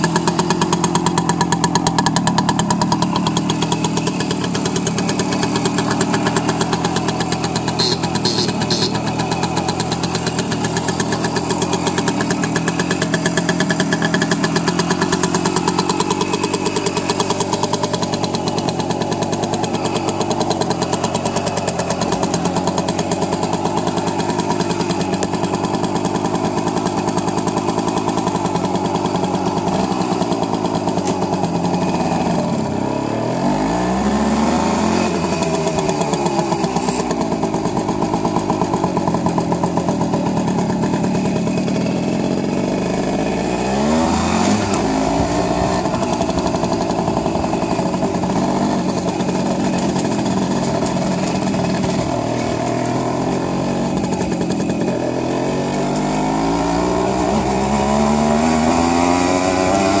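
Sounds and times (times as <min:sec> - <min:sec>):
moped engine running: 0:00.0 - 1:00.0.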